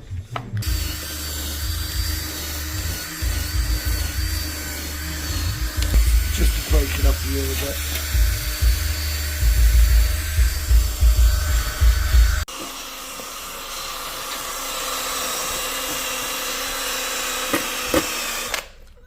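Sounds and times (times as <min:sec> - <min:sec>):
electric drill polishing metal: 0:00.6 - 0:18.8.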